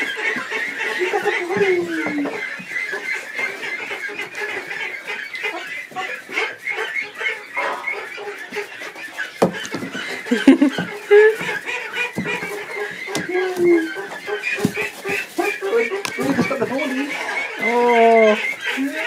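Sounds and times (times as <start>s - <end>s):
ducks peeping: 0.0s - 19.0s.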